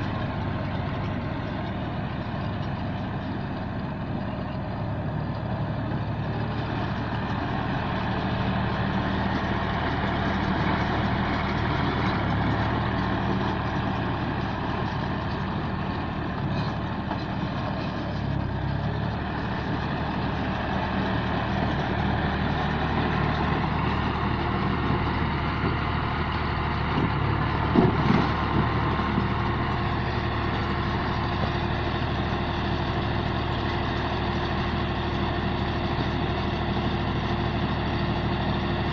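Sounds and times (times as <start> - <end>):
baler engine running: 0.0 - 38.9.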